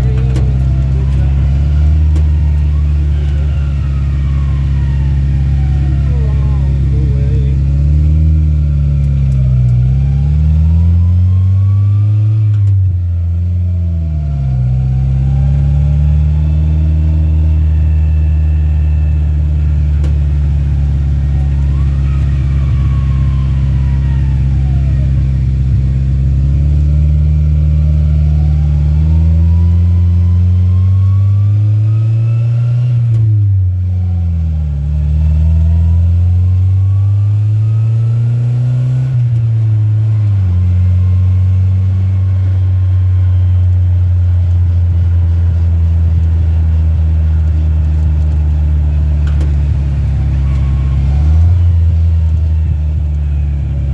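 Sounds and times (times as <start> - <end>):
truck engine accelerating: 0.0 - 53.9.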